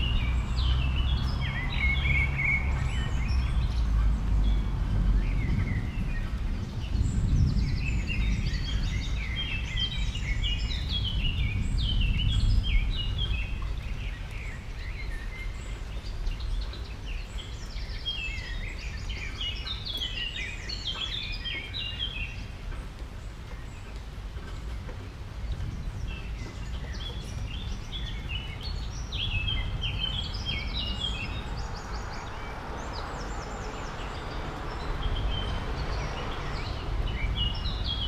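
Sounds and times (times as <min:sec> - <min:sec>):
small birds twittering: 0:00.0 - 0:38.0.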